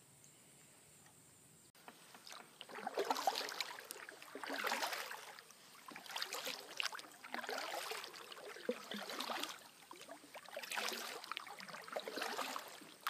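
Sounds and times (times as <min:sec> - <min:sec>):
paddle splashing in water: 0:01.8 - 0:13.0.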